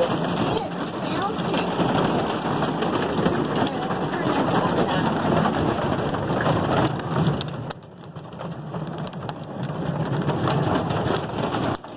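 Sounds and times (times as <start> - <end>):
hail pelting a metal roof: 0.0 - 11.9.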